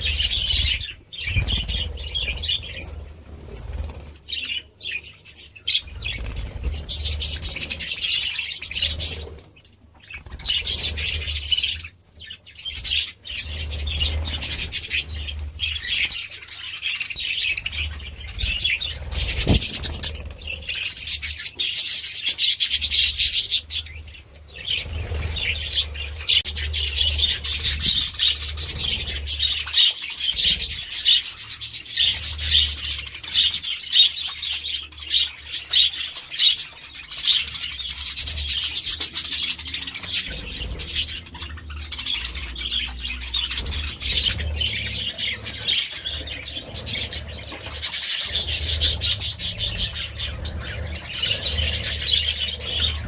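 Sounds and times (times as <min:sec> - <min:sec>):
budgerigars chattering: 0:00.0 - 0:53.0.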